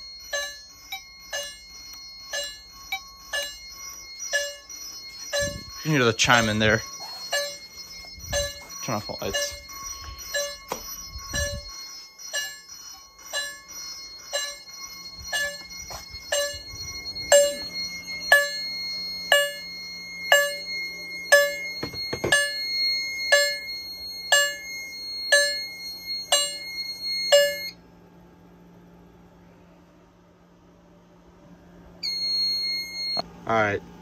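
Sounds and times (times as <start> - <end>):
fire alarm chimes: 0.0 - 27.8, 32.0 - 33.8
steady high tone: 0.0 - 27.8, 31.5 - 33.8.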